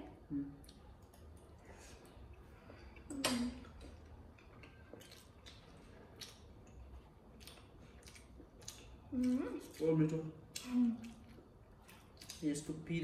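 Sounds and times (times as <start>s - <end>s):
people chewing dumplings: 0.0s - 13.0s.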